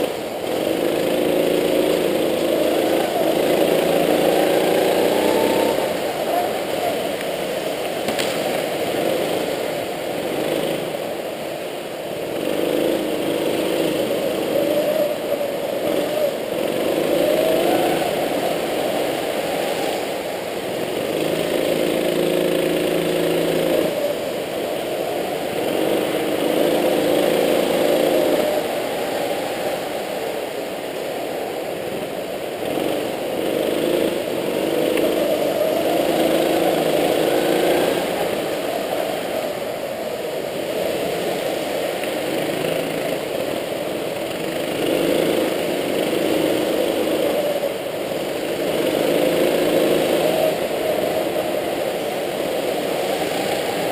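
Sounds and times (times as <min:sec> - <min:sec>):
go-kart engine: 0:00.0 - 0:53.9.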